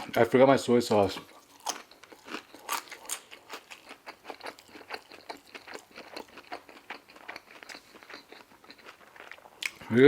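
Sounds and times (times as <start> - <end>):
chewing crunchy fried food: 0.9 - 9.9.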